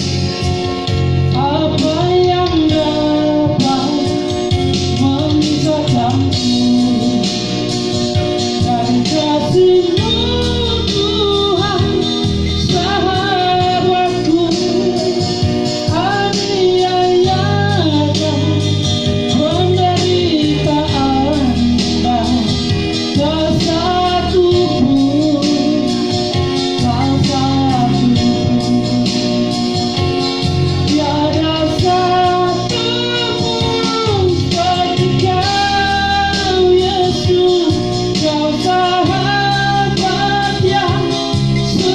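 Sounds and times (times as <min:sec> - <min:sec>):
guitar accompaniment: 0:00.0 - 0:41.9
person singing: 0:00.0 - 0:41.9.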